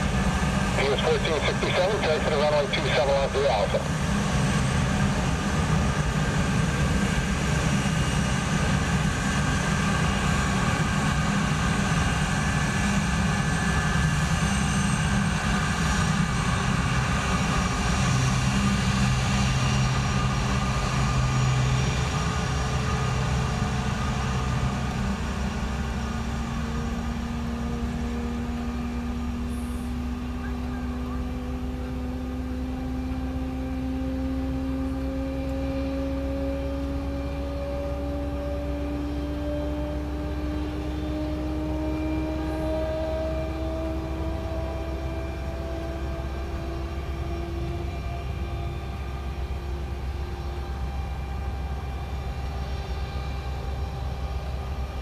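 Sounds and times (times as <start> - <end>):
jet engines whine and rumble: 0.0 - 55.0.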